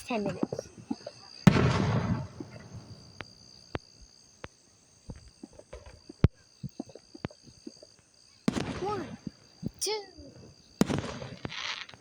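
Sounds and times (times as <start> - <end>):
crickets trilling: 0.0 - 12.0
fireworks popping: 0.0 - 12.0.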